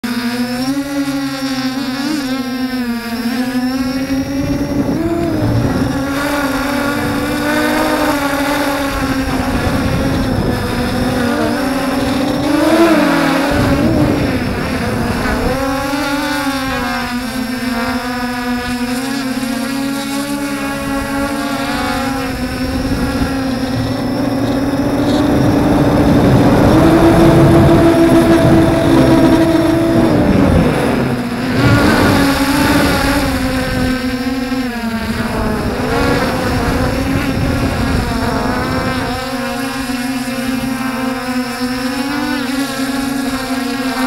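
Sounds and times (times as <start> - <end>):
drone motors whining: 0.0 - 44.0.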